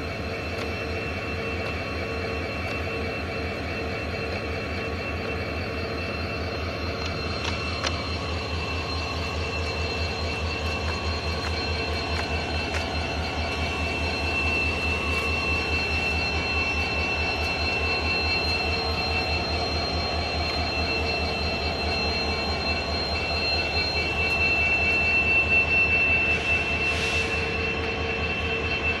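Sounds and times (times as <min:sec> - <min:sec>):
diesel locomotive engine pulsing: 0:00.0 - 0:29.0
high whine: 0:00.0 - 0:29.0.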